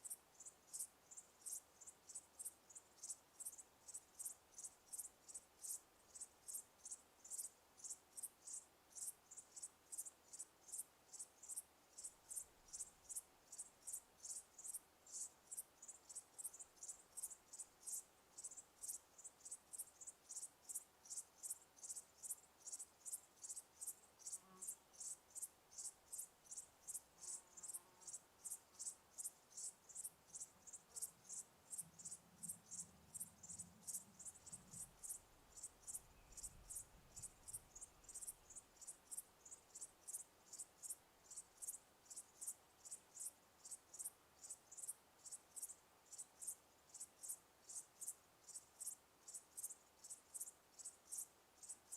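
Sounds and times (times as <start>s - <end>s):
cricket chirping: 0.0s - 51.9s.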